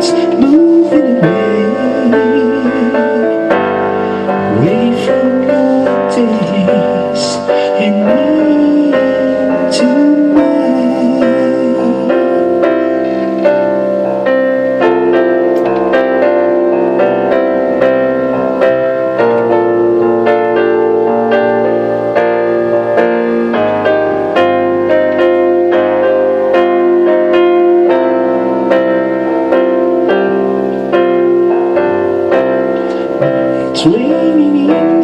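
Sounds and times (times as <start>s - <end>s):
slow piano ballad: 0.0s - 35.0s.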